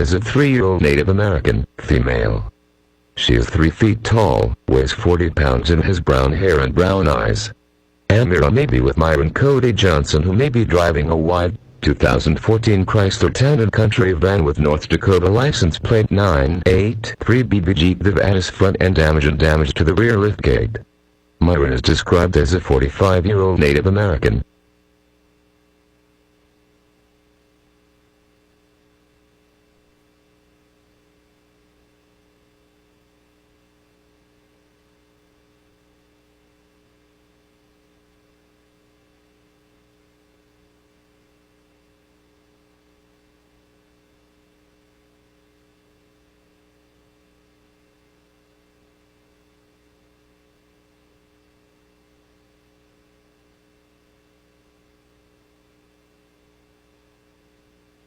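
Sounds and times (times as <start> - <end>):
faint electrical hum: 0.0 - 58.0
low hiss: 0.0 - 58.0.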